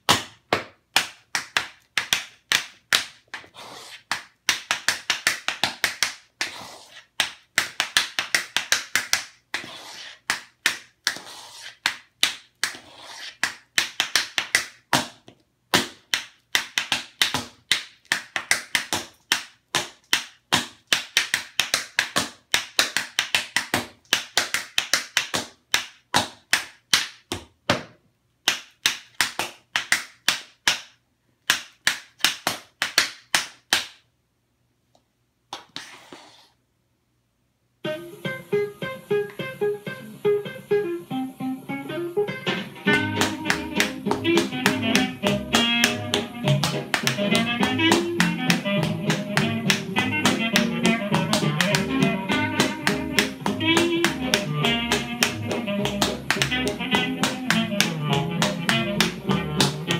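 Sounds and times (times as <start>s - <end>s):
tap shoes on tile floor: 0.0s - 34.0s, 42.2s - 59.9s.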